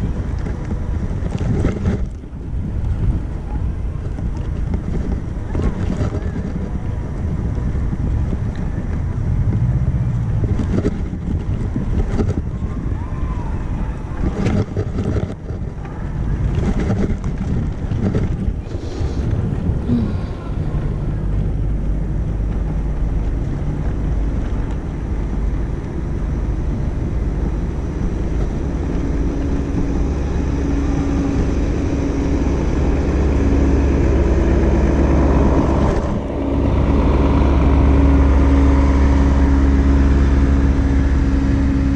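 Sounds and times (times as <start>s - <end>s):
road rumble: 0.0s - 41.9s
steady low hum: 0.0s - 41.9s
wind buffeting microphone: 0.0s - 41.9s.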